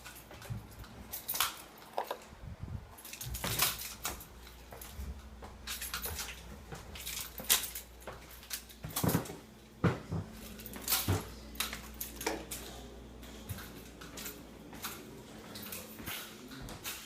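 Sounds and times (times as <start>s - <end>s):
footsteps walking: 0.0s - 17.0s.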